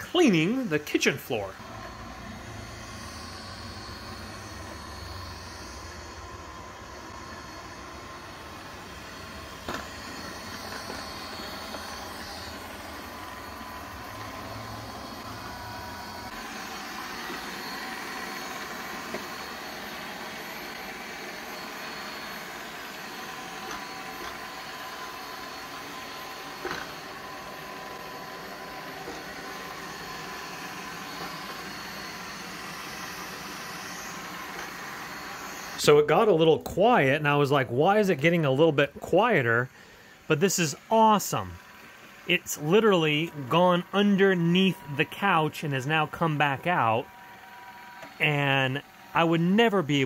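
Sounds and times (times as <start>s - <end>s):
robot vacuum whirring: 0.0s - 50.0s.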